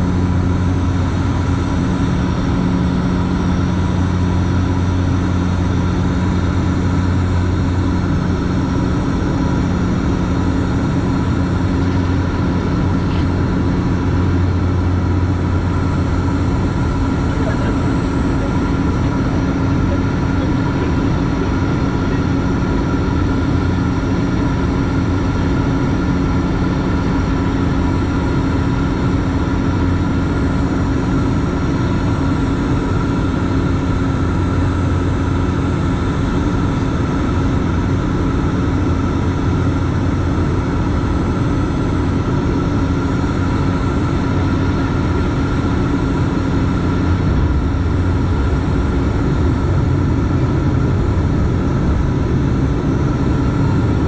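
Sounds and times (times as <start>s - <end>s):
propeller hum: 0.0s - 54.0s
turboprop engine drone: 0.0s - 54.0s.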